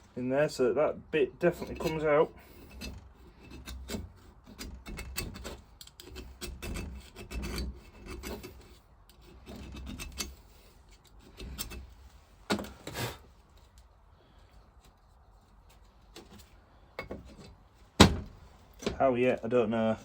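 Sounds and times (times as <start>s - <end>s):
hand tool scraping rusty metal: 1.3s - 20.0s.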